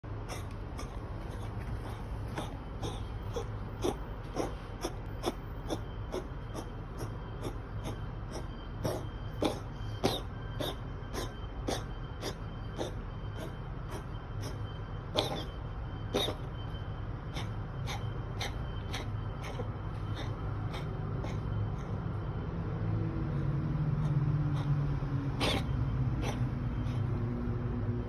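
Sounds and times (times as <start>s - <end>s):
low steady hum: 0.0s - 28.0s
cat coughing: 0.2s - 16.6s, 17.3s - 22.0s, 24.0s - 27.2s.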